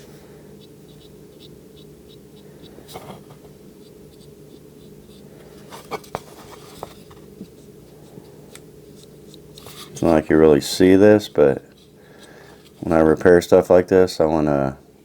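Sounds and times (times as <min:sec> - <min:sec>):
steady low hum: 0:00.0 - 0:15.0
light scratching: 0:00.6 - 0:13.1.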